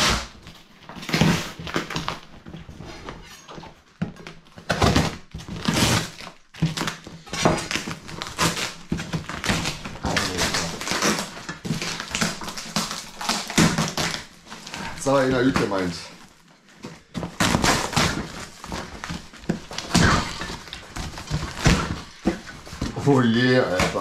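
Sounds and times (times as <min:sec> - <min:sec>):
tape and cardboard tearing: 0:00.0 - 0:02.3, 0:04.1 - 0:24.0.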